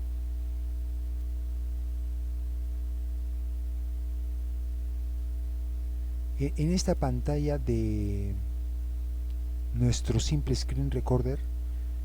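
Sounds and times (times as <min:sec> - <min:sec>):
faint high-pitched buzz: 0:00.0 - 0:12.0
low electrical hum: 0:00.0 - 0:12.0.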